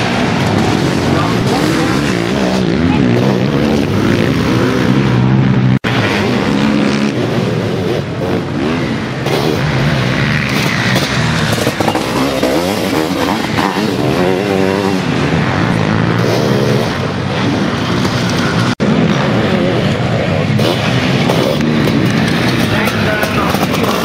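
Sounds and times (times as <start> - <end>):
motocross engines revving hard: 0.0 - 24.0.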